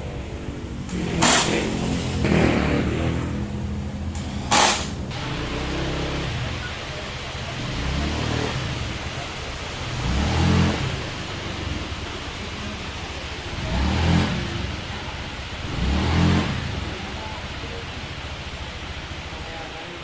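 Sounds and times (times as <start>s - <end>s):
scooter engine idling and revving: 0.0s - 20.0s.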